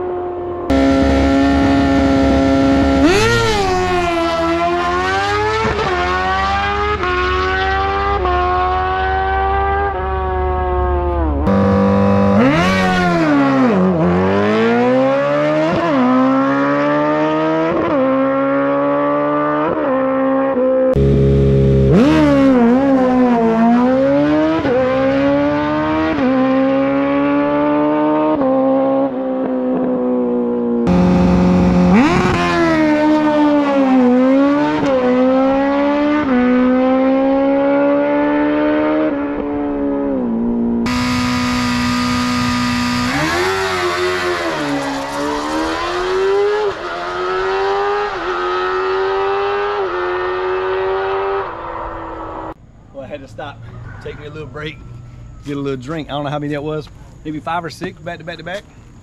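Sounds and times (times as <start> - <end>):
motorcycle engines at full throttle: 0.0 - 59.0.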